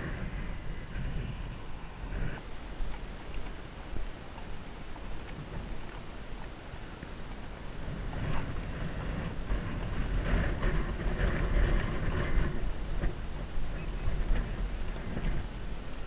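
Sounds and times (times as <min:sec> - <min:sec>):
hoofbeats of horses walking: 0:00.0 - 0:16.0
wind buffeting microphone: 0:00.0 - 0:16.0.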